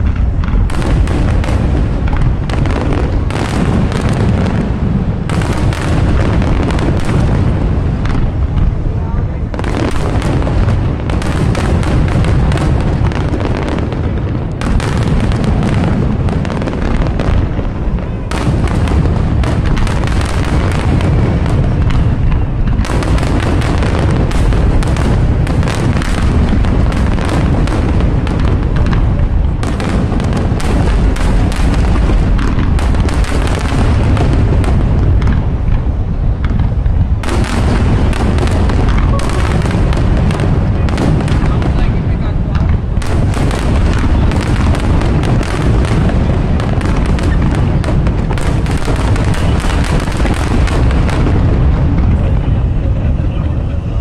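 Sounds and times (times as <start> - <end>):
fireworks booming: 0.0 - 54.0
fireworks crackling: 0.0 - 54.0.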